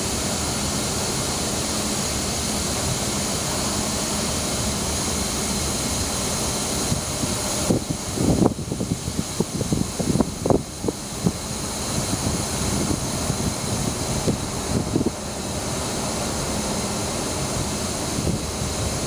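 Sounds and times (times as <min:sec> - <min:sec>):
freight train rumble: 0:00.0 - 0:19.0.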